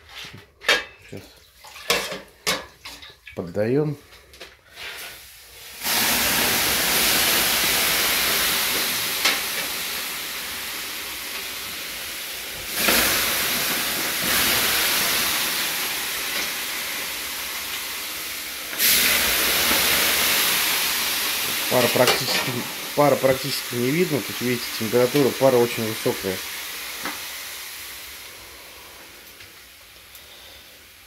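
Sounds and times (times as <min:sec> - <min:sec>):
water hissing on hot stones: 0:04.7 - 0:31.0.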